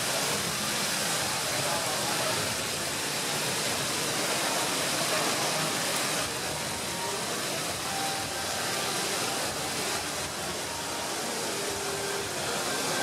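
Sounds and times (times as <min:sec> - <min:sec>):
artificial rain hissing: 0:00.0 - 0:13.0.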